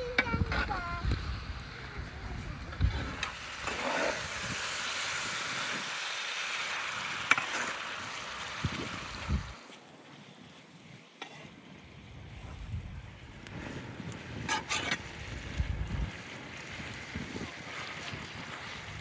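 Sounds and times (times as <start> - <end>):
meat and onions sizzling in a pan: 0.2 - 9.6, 11.0 - 19.0.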